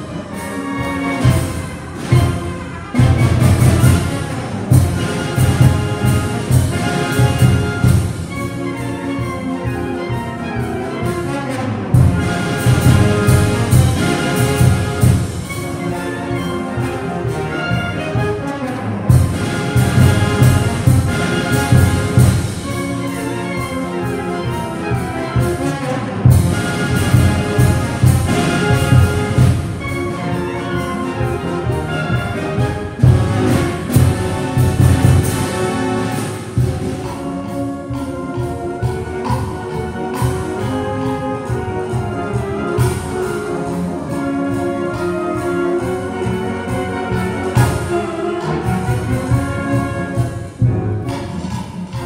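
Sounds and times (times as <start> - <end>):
concert band playing: 0.0 - 52.0.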